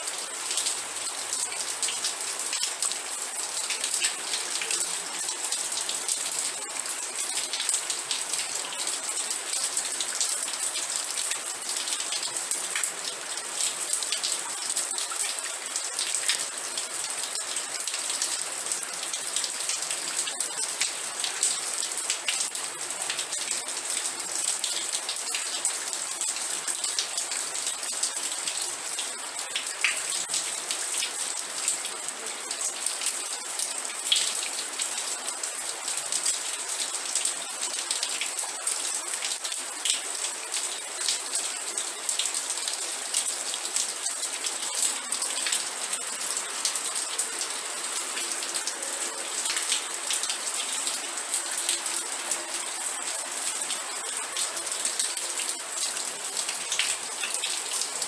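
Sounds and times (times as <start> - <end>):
rain pattering: 0.1 - 58.0.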